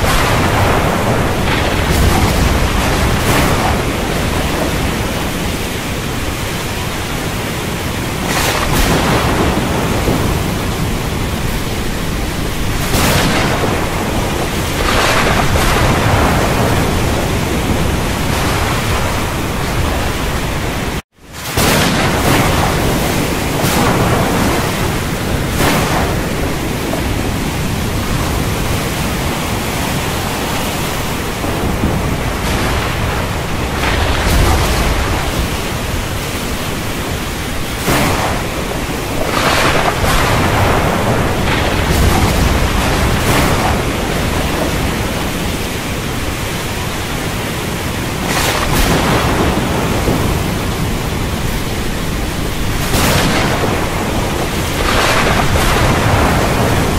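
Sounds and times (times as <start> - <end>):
sea waves: 0.0 - 56.9
thunder rumbles: 0.0 - 56.9
wind: 0.0 - 56.9.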